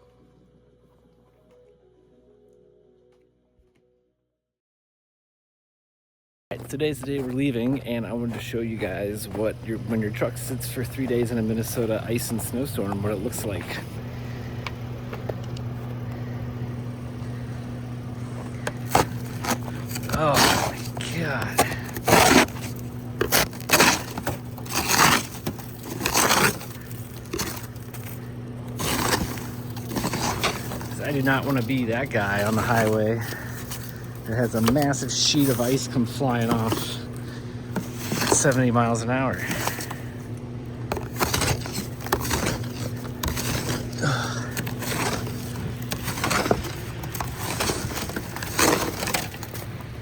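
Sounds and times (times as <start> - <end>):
ice scraping and crunching: 6.5 - 50.0
steady low hum: 6.5 - 50.0.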